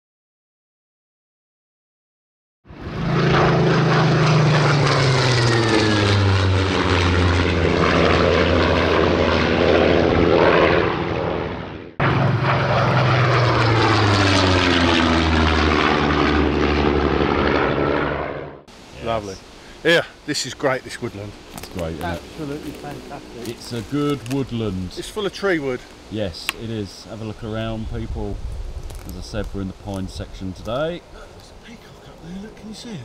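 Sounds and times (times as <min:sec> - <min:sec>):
propeller plane engine flying past: 0:02.7 - 0:33.0.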